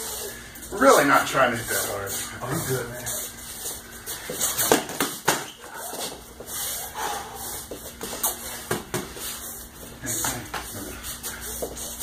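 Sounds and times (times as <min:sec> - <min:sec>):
feet shuffling on mat: 0:01.7 - 0:12.0.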